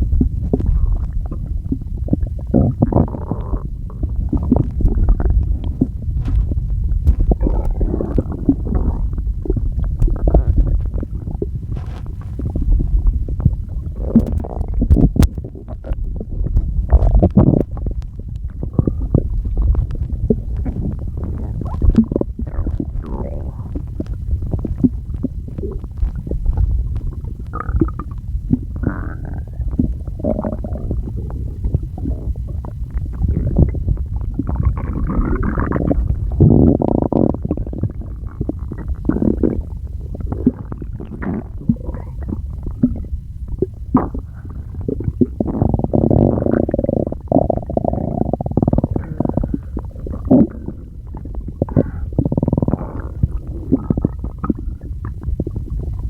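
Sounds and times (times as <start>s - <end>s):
stomach growling and gurgling: 0.0s - 56.0s.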